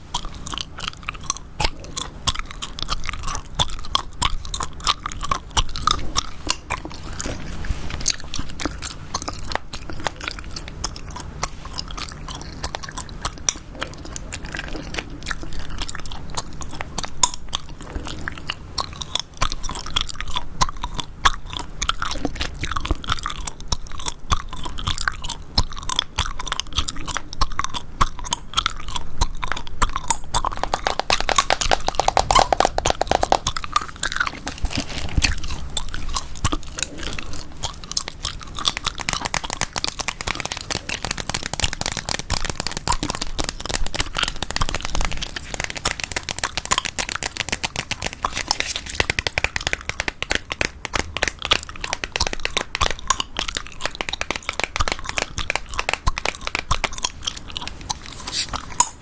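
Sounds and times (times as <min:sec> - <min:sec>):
gum chewing clicks and smacks: 0:00.0 - 0:59.0.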